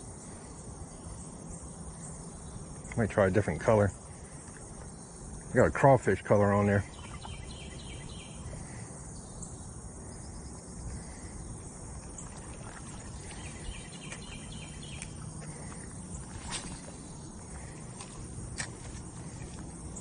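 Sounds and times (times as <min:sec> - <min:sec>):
insect pulsed chirping: 0:00.0 - 0:20.0
outdoor background noise: 0:00.0 - 0:20.0.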